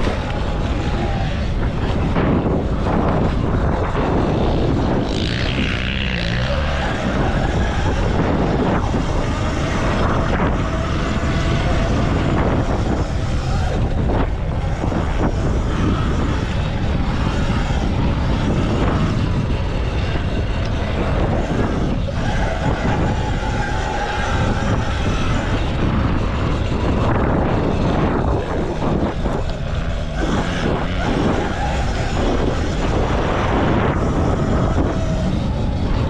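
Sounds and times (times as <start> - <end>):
electric motor whine: 0.0 - 36.0
wind chain and tyre noise: 0.0 - 36.0.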